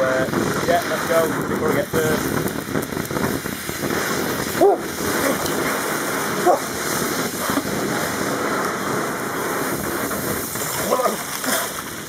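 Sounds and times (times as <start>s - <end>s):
firework fountain hissing: 0.0s - 12.0s
water pouring and splashing: 0.7s - 12.0s.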